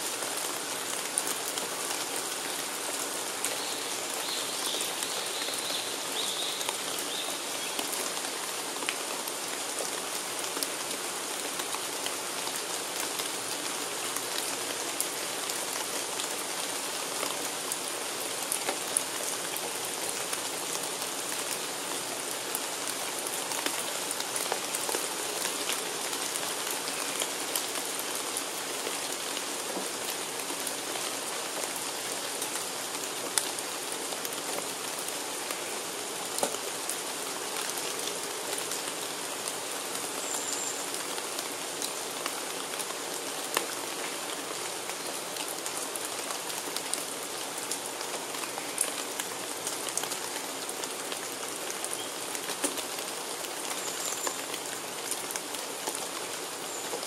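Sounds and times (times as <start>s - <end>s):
rain on foliage: 0.0s - 57.0s.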